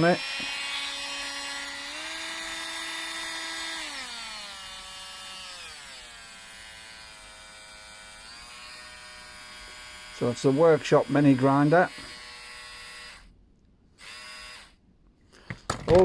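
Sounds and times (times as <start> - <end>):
mini grinder motor whining: 0.0 - 13.3, 14.0 - 14.8.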